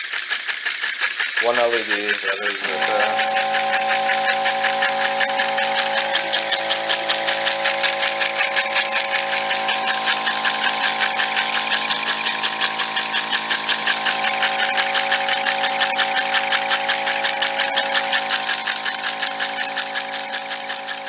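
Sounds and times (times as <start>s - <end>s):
steam engine exhaust chuffing: 0.0s - 21.0s
steady whine: 1.4s - 21.0s.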